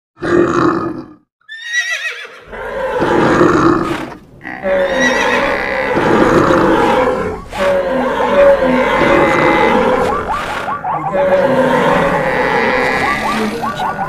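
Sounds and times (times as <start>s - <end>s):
horse whinnying: 0.2s - 13.6s
animal roars and calls: 0.2s - 14.0s.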